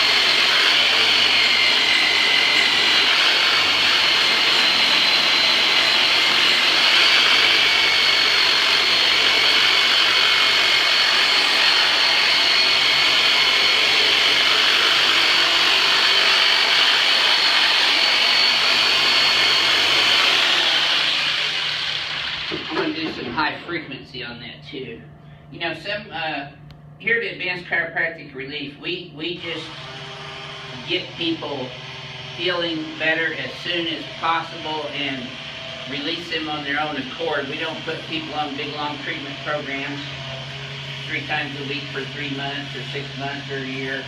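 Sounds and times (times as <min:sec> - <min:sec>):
electric massager whining: 0:00.0 - 0:23.4, 0:29.2 - 0:44.0.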